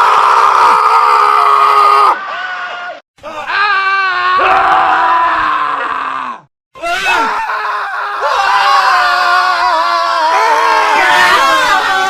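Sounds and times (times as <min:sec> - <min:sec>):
men screaming: 0:00.0 - 0:12.0.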